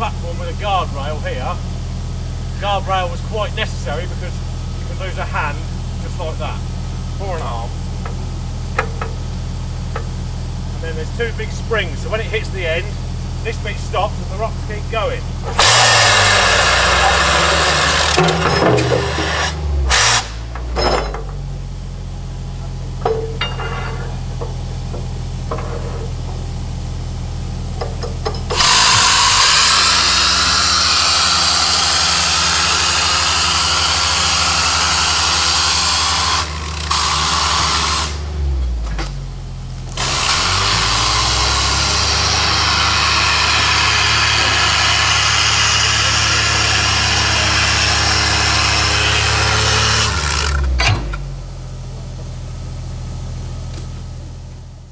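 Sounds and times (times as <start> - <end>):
low engine hum: 0.0 - 35.0, 37.9 - 54.9.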